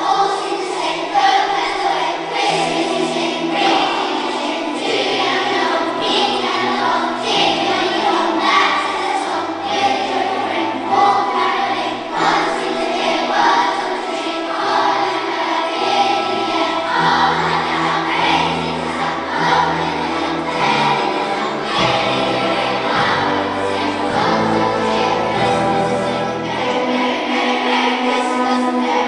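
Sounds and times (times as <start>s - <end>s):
children's choir singing: 0.0s - 29.0s
orchestra accompanying: 2.3s - 29.0s.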